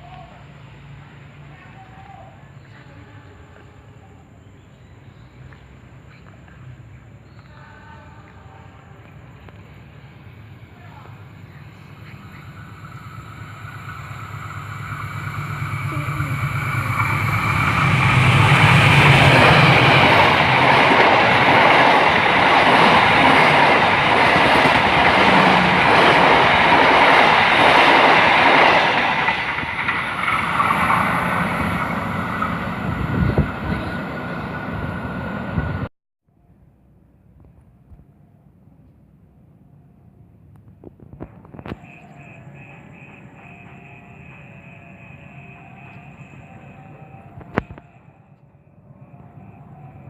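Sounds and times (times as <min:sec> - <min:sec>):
train passing: 0:00.0 - 0:35.9, 0:36.9 - 0:50.0.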